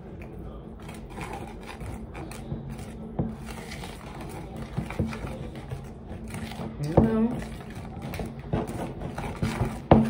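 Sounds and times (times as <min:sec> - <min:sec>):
utensil stirring batter in bowl: 0:00.0 - 0:10.0.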